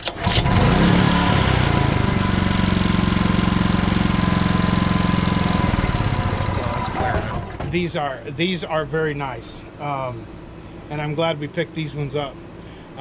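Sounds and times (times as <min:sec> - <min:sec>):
generator engine running: 0:00.0 - 0:11.3.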